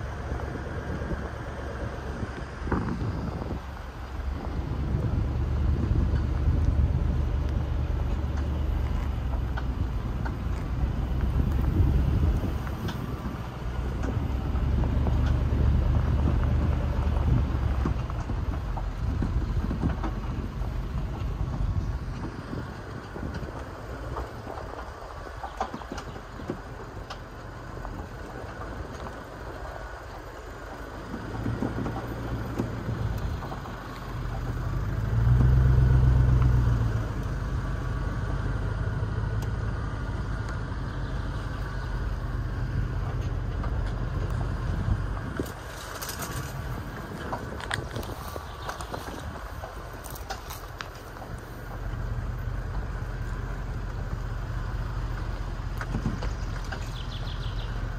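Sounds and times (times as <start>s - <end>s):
engine rumble: 0.0s - 57.9s
tyre noise: 0.0s - 57.9s
wind noise: 0.0s - 57.9s.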